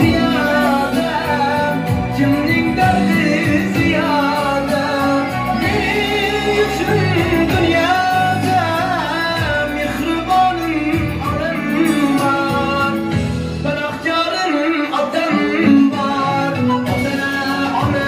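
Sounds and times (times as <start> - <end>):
instrumental accompaniment: 0.0 - 18.0
person singing: 0.0 - 18.0.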